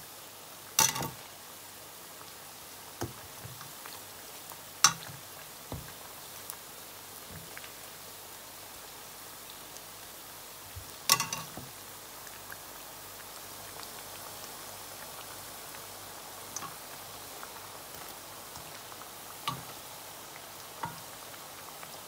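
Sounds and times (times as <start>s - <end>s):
oil sizzling: 0.0s - 22.0s.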